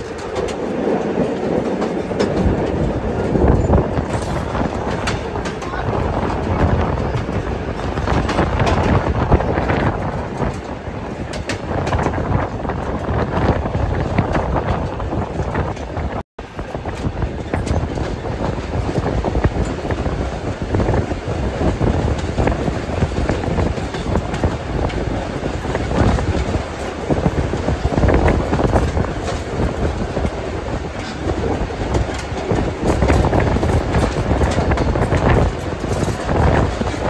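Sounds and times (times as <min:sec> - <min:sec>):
train rumbling along the line: 0:00.0 - 0:37.0
wheels clattering on rails: 0:00.0 - 0:37.0.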